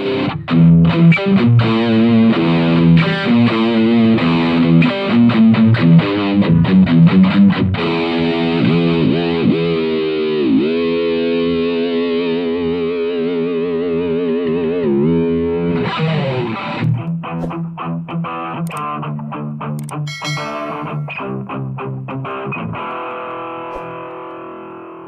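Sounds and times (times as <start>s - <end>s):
distorted electric guitar: 0.0s - 25.0s.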